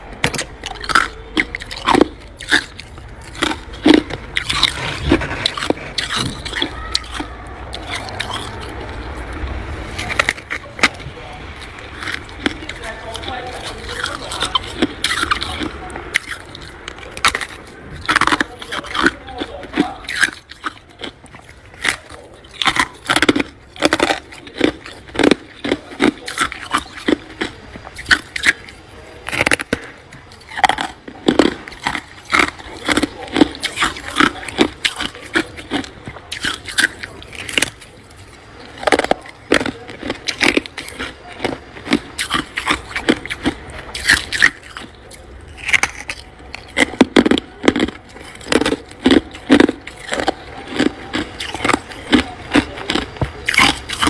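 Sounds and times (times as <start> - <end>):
frost crunching: 0.0 - 54.0.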